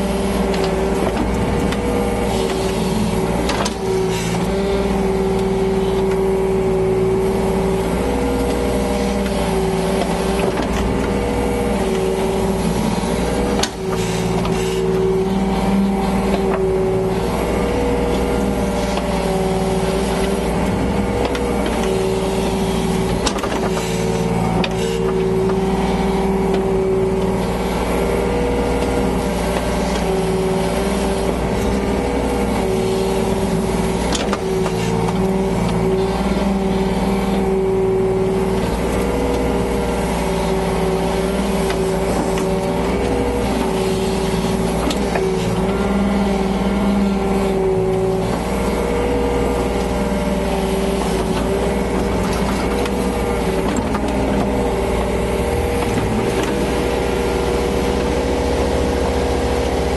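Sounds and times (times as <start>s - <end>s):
excavator diesel engine working: 0.0s - 59.9s.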